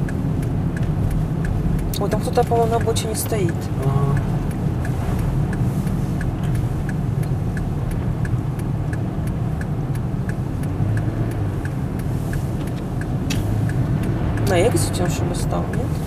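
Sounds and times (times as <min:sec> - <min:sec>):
car engine and tyre rumble: 0:00.0 - 0:16.0
hazard light flasher ticking: 0:00.0 - 0:16.0.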